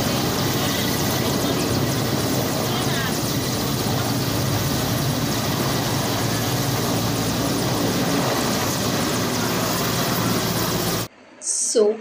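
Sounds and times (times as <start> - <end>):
helicopter flying low overhead: 0.0 - 11.1.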